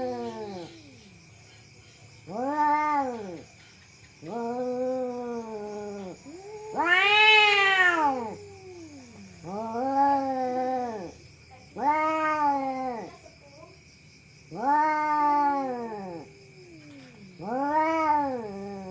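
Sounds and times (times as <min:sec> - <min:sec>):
cat yowling: 0:00.0 - 0:01.1, 0:02.2 - 0:03.5, 0:04.2 - 0:13.2, 0:14.5 - 0:18.9.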